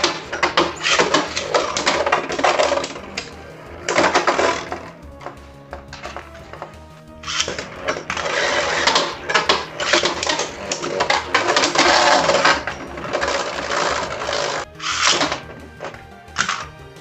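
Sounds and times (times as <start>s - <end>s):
spinning tops grinding and clashing: 0.0s - 17.0s.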